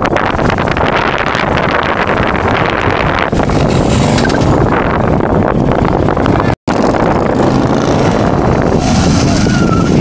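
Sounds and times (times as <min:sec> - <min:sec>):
motorcycle engines running: 0:00.0 - 0:10.0
wind buffeting microphone: 0:00.0 - 0:10.0.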